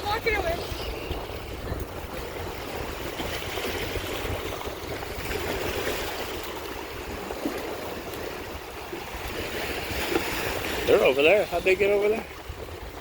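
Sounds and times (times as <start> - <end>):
lake water at shore: 0.0 - 13.0
wind on microphone: 0.0 - 13.0.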